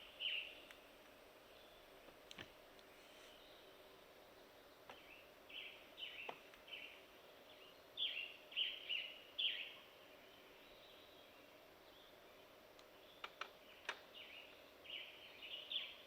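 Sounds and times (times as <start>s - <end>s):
bird chirping: 0.0s - 0.8s, 3.1s - 16.0s.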